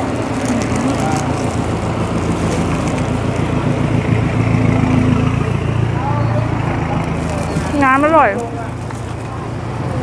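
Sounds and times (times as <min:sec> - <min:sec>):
traffic noise: 0:00.0 - 0:10.0
vehicle engine running: 0:00.0 - 0:10.0.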